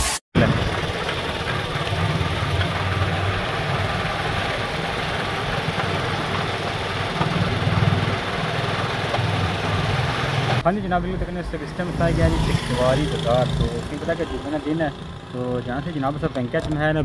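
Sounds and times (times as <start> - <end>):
road and wind noise: 0.4 - 17.0
vehicle engine running: 0.4 - 17.0.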